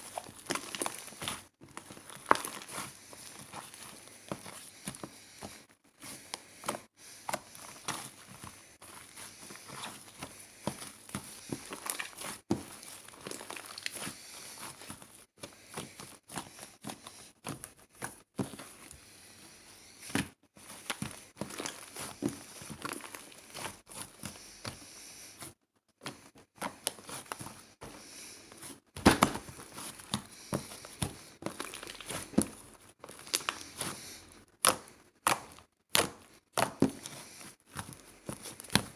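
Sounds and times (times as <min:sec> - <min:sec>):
crinkling and rustling: 0:00.0 - 0:38.9.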